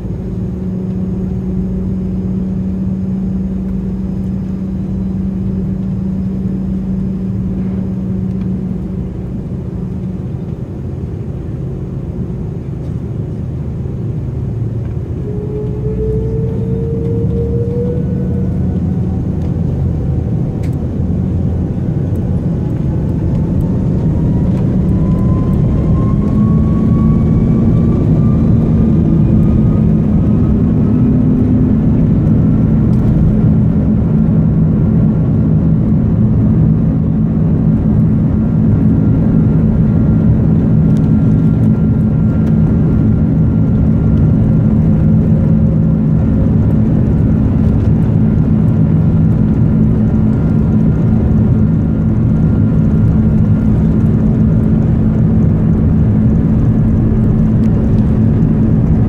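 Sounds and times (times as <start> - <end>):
jet engine whine: 0.0 - 59.0
loud even engine rumble: 0.0 - 59.0.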